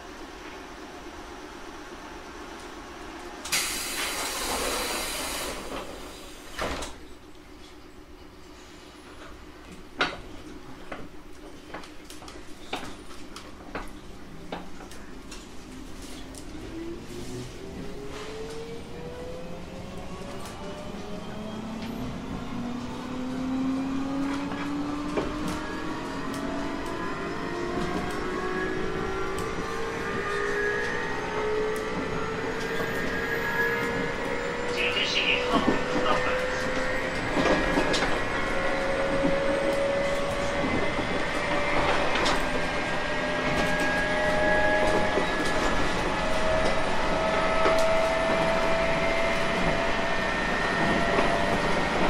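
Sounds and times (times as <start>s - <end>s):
electric train humming: 0.0s - 11.7s, 13.2s - 52.0s
wheels rumbling on rail: 0.0s - 52.0s.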